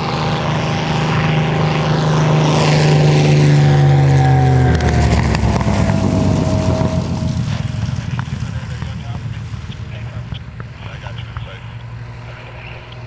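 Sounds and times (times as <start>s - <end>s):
propeller plane flying by: 0.0s - 13.0s.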